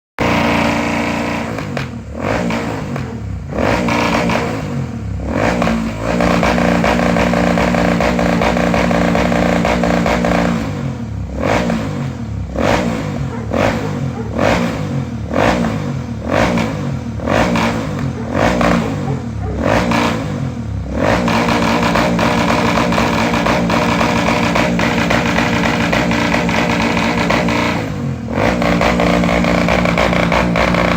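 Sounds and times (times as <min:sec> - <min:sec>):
motorcycle engine revving: 0:00.2 - 0:30.9.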